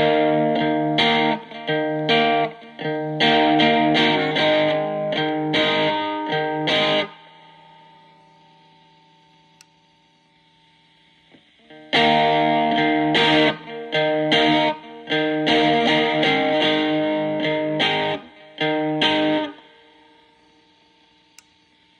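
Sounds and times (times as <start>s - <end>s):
distorted electric guitar chords: 0.0s - 21.1s.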